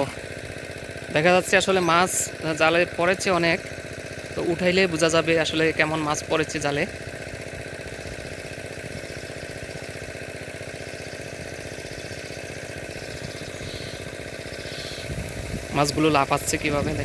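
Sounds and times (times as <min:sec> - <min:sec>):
water pump engine chugging: 0:00.0 - 0:17.0.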